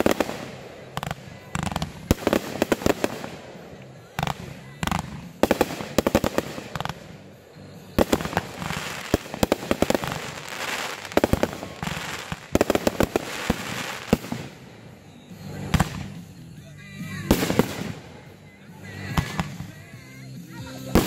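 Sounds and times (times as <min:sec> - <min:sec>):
fireworks bangs: 0:00.0 - 0:16.4, 0:17.0 - 0:20.0
hiss of burning fireworks: 0:00.0 - 0:19.8.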